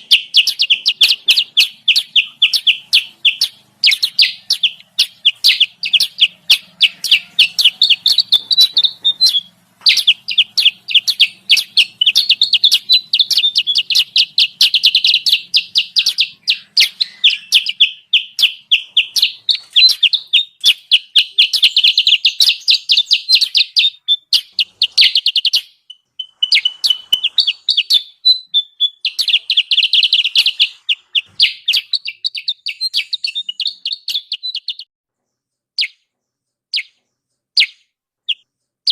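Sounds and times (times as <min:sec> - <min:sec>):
rapid high-pitched bird chirps: 0:00.0 - 0:38.9.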